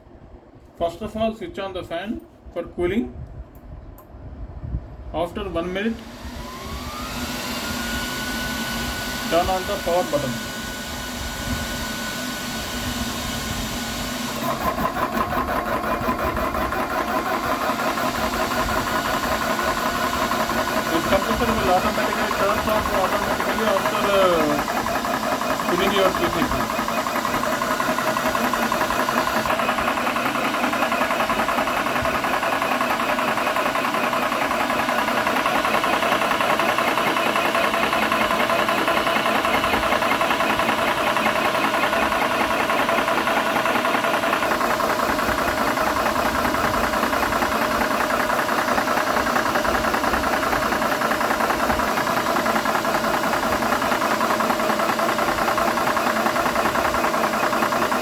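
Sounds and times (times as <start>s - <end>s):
cooling fan: 0.0s - 58.0s
air compressor running: 4.4s - 58.0s
fast pulsing of pump: 5.4s - 58.0s.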